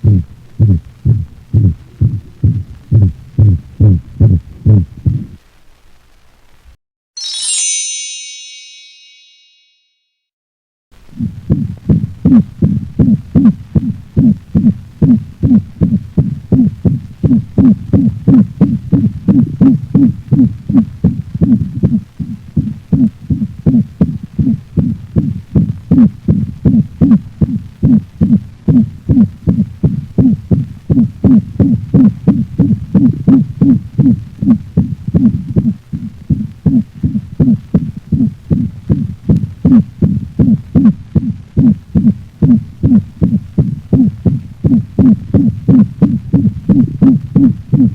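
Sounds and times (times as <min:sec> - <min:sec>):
dog heartbeats thudding: 0:00.0 - 0:05.4, 0:11.5 - 0:47.9.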